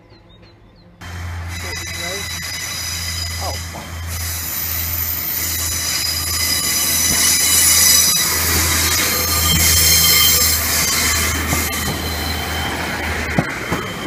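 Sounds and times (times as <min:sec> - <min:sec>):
train wheels squealing: 0:00.0 - 0:14.0.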